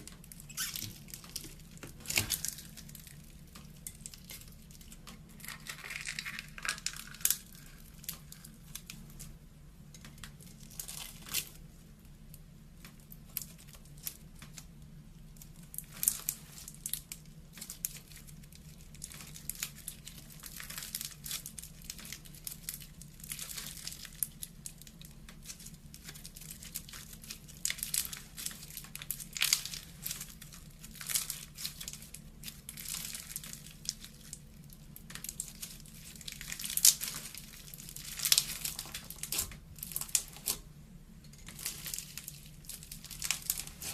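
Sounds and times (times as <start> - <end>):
slime crackling: 0.0 - 43.9.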